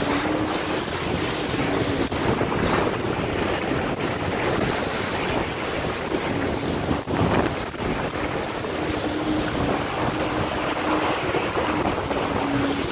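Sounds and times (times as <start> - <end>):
water rushing along hull: 0.0 - 12.9
wind buffeting microphone: 0.0 - 12.9.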